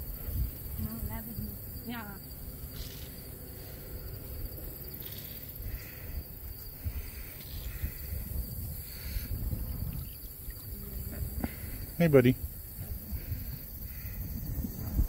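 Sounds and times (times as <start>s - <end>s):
wind rumble on microphone: 0.0s - 3.2s, 4.0s - 15.0s
insects buzzing: 0.0s - 15.0s.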